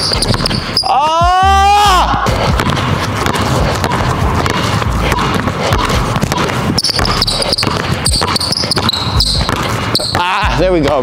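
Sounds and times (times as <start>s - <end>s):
sneaker squeaks on hardwood: 0.0s - 1.1s, 2.6s - 10.5s
basketballs dribbled on hardwood: 0.0s - 11.0s.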